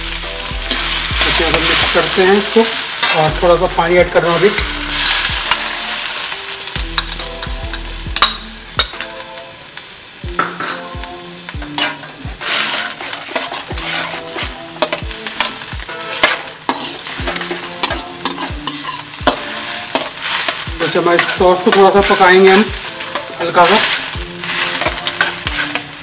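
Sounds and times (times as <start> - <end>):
light sizzle from pan: 0.0 - 26.0
metal spatula scraping a wok: 0.1 - 9.0, 11.6 - 26.0.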